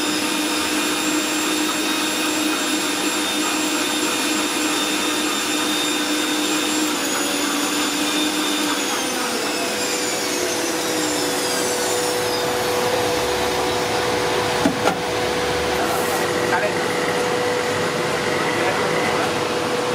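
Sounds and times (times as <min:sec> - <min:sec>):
blender motor whirring: 0:00.0 - 0:19.9.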